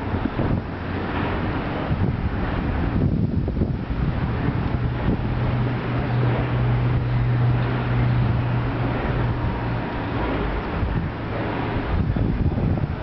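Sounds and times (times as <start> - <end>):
low machine hum: 0.0 - 13.0
wind buffeting microphone: 0.0 - 13.0.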